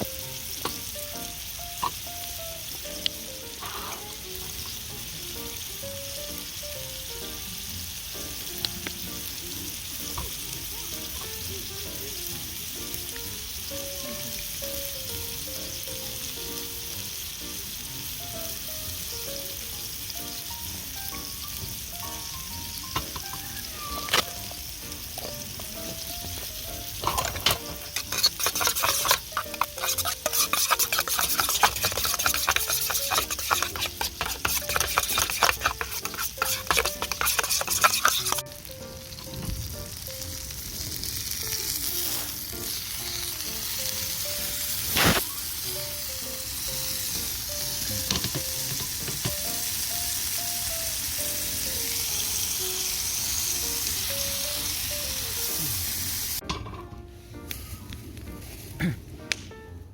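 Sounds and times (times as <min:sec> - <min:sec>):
food sizzling in a pan: 0:00.0 - 0:58.9
soft background music: 0:00.0 - 0:59.9.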